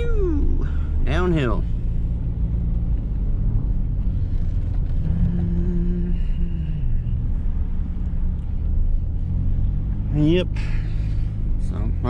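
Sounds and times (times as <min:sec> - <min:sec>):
pickup truck engine and road rumble: 0:00.0 - 0:12.0.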